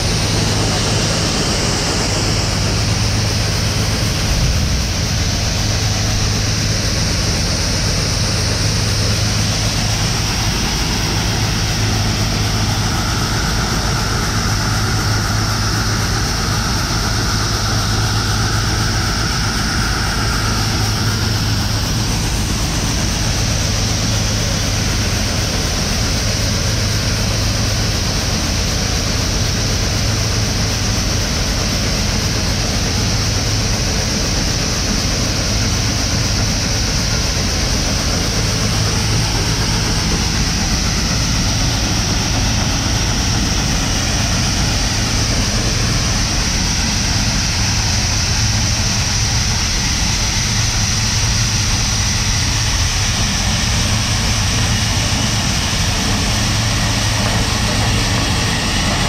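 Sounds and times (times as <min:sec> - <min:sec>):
combine engine hum: 0:00.0 - 0:59.0
grain streaming from auger: 0:00.0 - 0:59.0.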